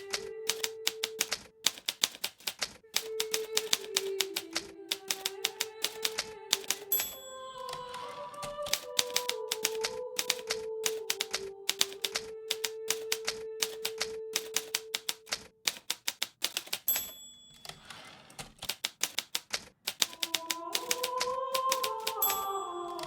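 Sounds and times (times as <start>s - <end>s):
typewriter bell ringing: 0.0s - 3.6s, 5.0s - 8.0s, 8.7s - 19.2s, 19.9s - 23.0s
typewriter carriage return rasp: 0.0s - 7.3s, 8.0s - 23.0s
typewriter keys striking: 0.0s - 23.0s.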